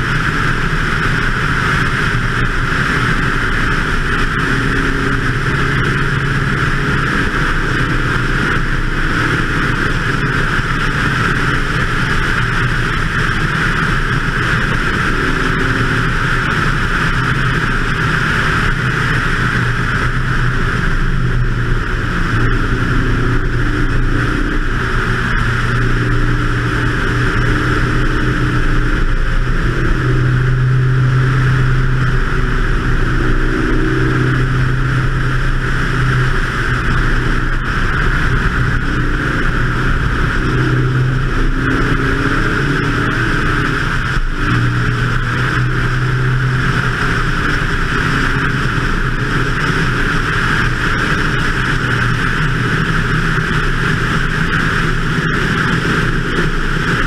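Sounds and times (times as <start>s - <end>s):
car engine accelerating under load: 0.0s - 57.0s
wind noise on microphone: 0.0s - 57.0s.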